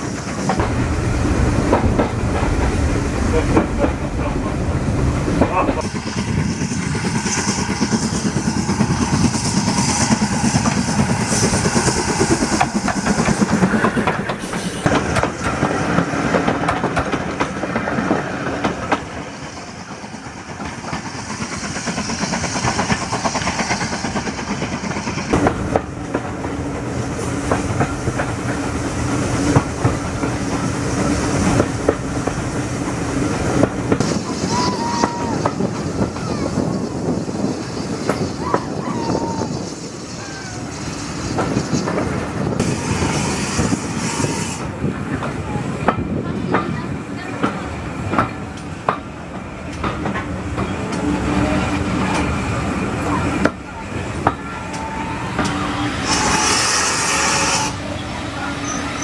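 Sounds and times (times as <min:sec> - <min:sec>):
high rushing hiss: 0:00.0 - 0:44.9, 0:50.4 - 0:59.0
train wheels over rail joints: 0:00.0 - 0:59.0.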